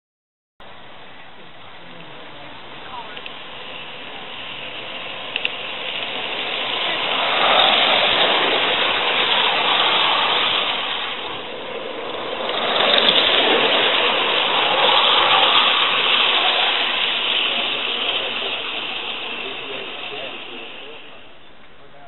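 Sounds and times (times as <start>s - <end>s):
steam exhaust hissing: 0.6s - 22.0s
wheels rolling on rails: 0.6s - 22.0s.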